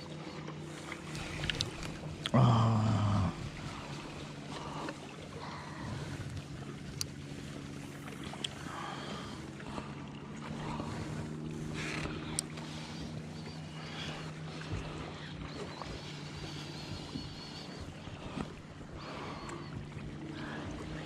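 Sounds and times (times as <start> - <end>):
steady low motor hum: 0.0 - 21.0.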